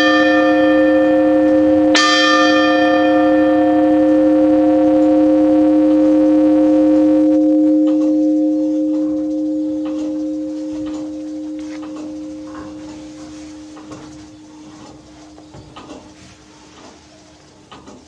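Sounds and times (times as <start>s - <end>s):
church bells humming tones: 0.0s - 16.1s.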